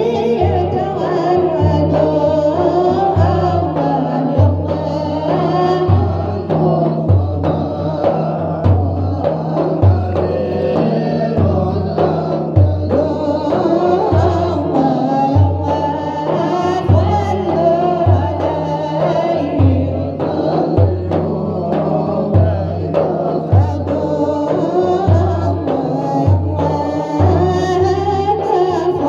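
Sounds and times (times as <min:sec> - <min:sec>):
person singing devotional song: 0:00.0 - 0:29.0
repeating drum rhythm: 0:00.0 - 0:29.0.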